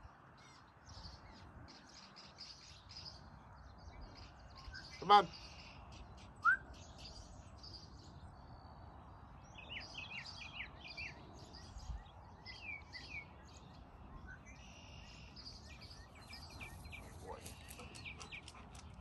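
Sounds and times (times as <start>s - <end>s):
outdoor background noise: 0.0s - 19.0s
songbirds chirping: 0.0s - 19.0s.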